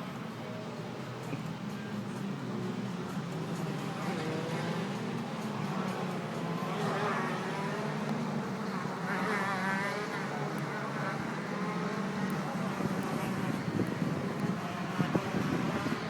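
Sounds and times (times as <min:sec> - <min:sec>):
jet ski engines buzzing: 0:00.0 - 0:16.0.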